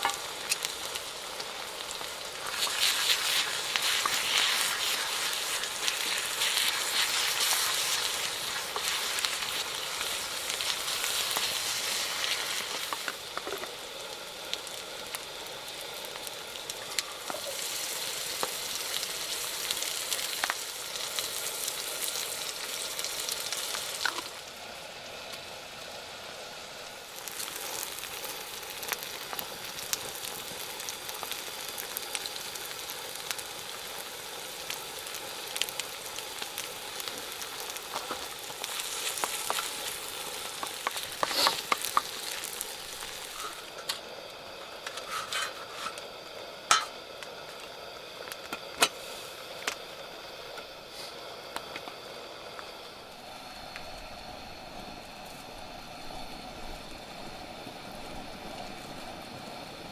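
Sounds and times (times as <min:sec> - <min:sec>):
food sizzling in frying pan: 0:00.0 - 0:59.9.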